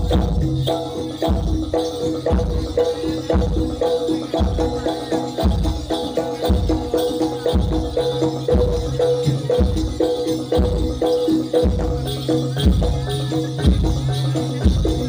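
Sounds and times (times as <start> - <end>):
drums beating: 0.0 - 15.0.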